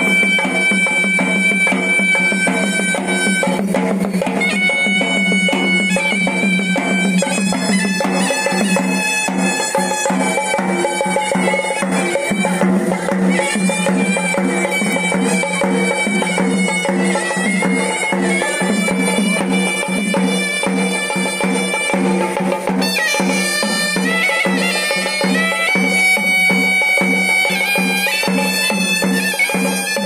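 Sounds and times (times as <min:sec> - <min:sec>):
double-reed pipe melody: 0:00.0 - 0:30.0
traditional drumming: 0:00.0 - 0:30.0.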